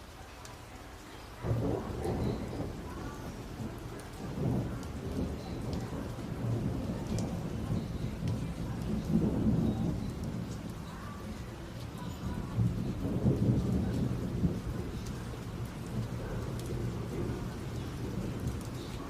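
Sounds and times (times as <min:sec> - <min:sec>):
raindrops ticking: 0:00.0 - 0:19.0
steady rain: 0:00.0 - 0:19.0
thunder rumbling: 0:01.2 - 0:19.0.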